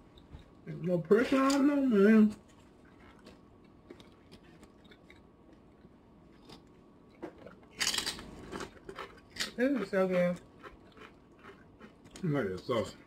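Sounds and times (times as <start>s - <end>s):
quiet chewing: 0.0s - 0.7s, 2.4s - 7.8s, 8.4s - 13.0s.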